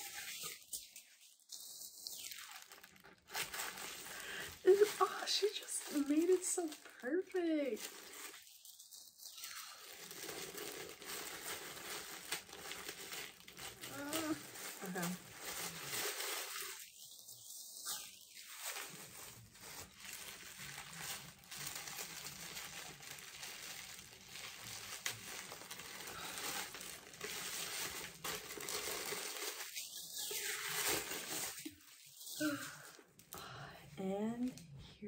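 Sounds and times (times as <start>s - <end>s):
paper packaging rustling: 0.0s - 33.2s.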